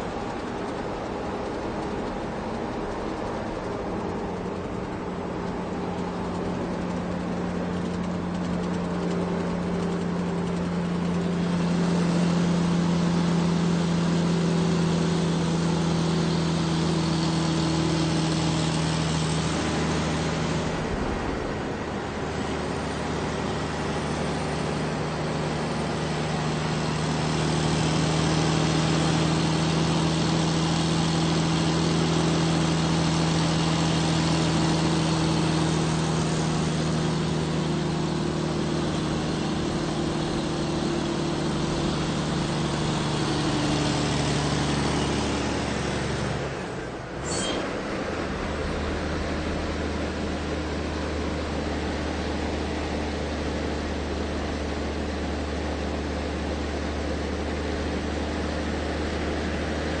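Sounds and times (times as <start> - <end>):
road noise: 0.0 - 60.0
truck engine droning: 0.0 - 60.0.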